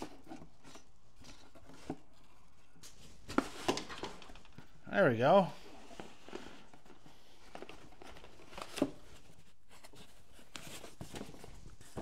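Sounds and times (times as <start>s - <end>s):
cardboard box rustling: 0.0s - 4.6s, 5.7s - 12.0s.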